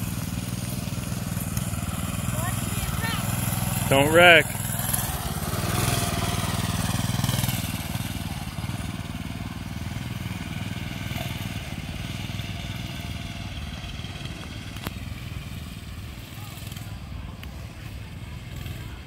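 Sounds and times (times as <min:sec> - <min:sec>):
minibike engine running: 0:00.0 - 0:19.0.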